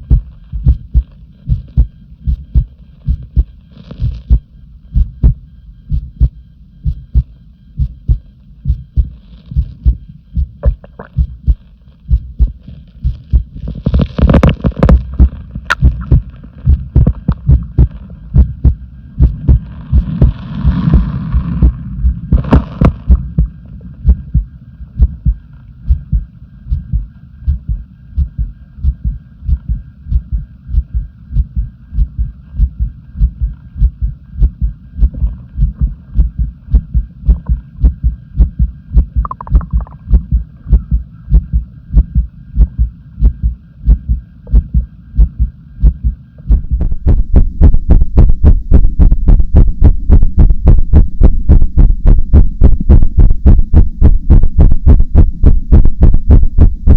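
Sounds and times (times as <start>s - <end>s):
heartbeat low thuds: 0.0s - 56.9s.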